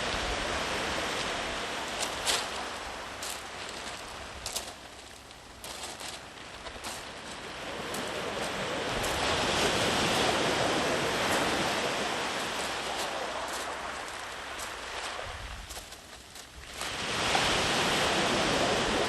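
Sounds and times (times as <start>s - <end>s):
waves washing on sandy beach: 0.0s - 19.0s.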